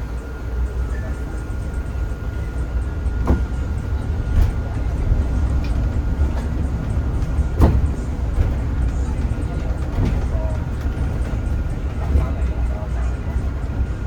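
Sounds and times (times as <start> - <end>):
bus cabin rumble with high whine: 0.0 - 14.0.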